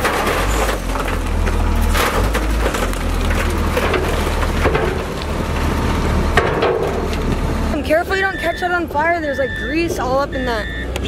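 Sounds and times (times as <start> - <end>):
burning car crackling: 0.0 - 11.0
diesel engine droning: 0.0 - 11.0.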